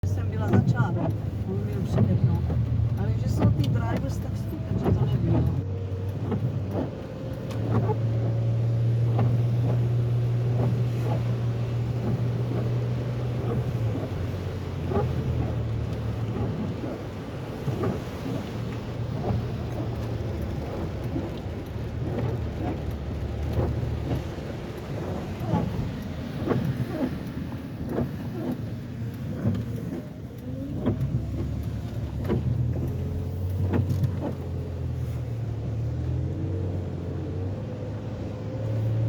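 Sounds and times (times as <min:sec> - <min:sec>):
car engine and road hum: 0:00.0 - 0:39.0.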